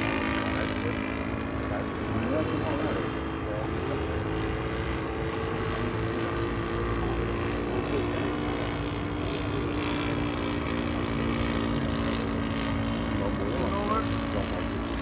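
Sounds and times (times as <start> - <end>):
model aeroplane engine droning: 0.0 - 15.0.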